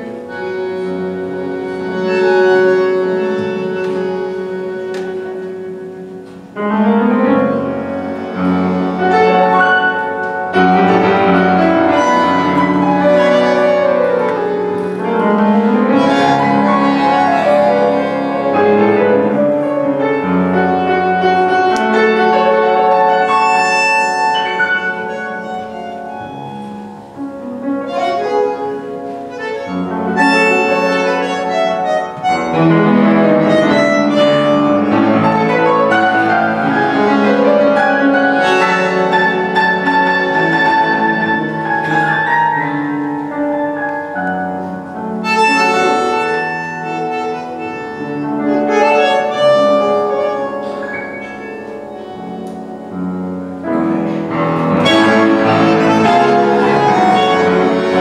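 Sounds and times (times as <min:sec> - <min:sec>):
bandoneon held reedy notes: 0:00.0 - 0:58.0
piano playing tango: 0:00.0 - 0:58.0.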